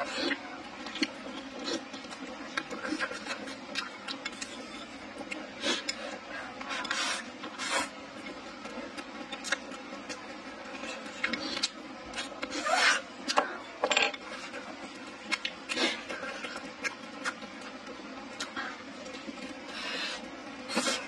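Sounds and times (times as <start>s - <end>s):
person chewing food: 0.0s - 12.5s, 13.2s - 21.0s
faint steady hum: 0.0s - 21.0s.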